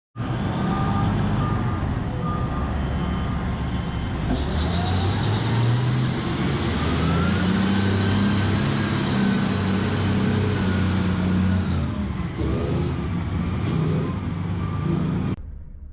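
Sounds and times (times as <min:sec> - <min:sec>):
haul truck drive running: 0:00.2 - 0:15.8
reversing alarm beeping: 0:00.3 - 0:12.9, 0:13.8 - 0:15.4.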